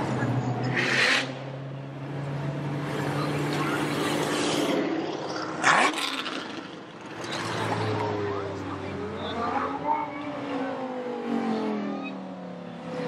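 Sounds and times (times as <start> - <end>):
car engines pulling away: 0.0 - 13.0.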